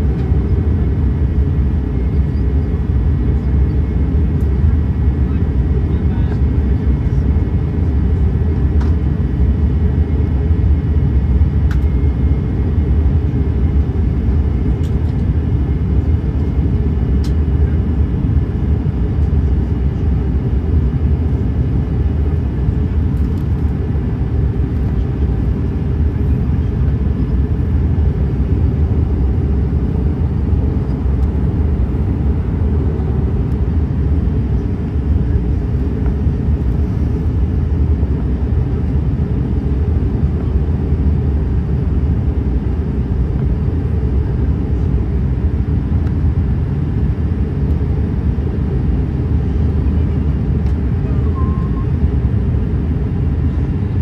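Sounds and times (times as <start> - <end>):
airliner cabin rumble: 0.0 - 54.0
faint whine: 0.0 - 54.0.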